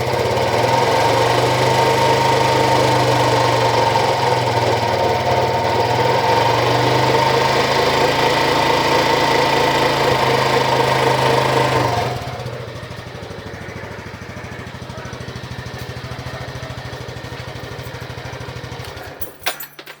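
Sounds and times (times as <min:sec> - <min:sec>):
motorcycle engine idling: 0:00.0 - 0:19.2.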